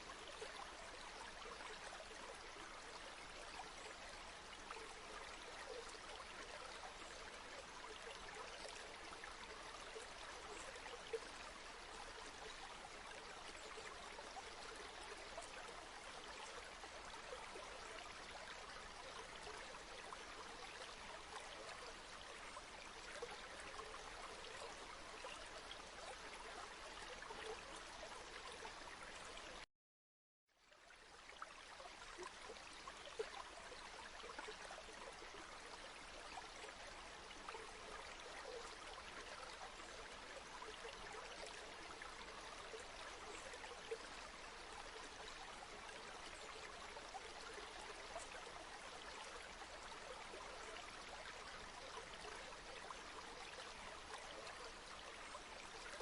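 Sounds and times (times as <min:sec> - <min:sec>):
river water flowing: 0:00.0 - 0:29.6, 0:30.6 - 0:56.0.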